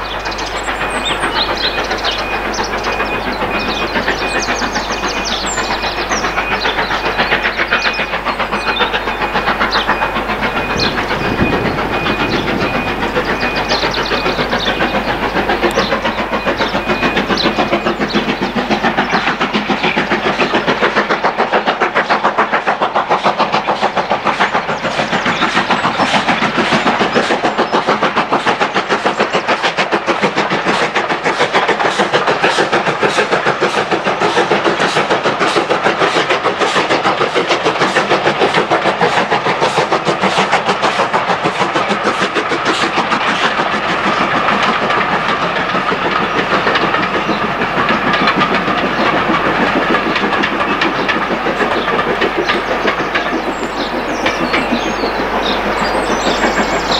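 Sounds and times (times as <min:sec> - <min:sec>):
steam locomotive chuffing: 0:00.0 - 0:56.9.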